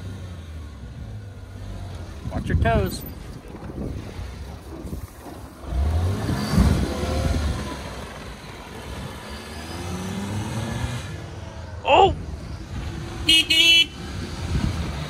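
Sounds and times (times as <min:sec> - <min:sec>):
small truck engine revving: 0:00.0 - 0:02.4, 0:03.2 - 0:15.0.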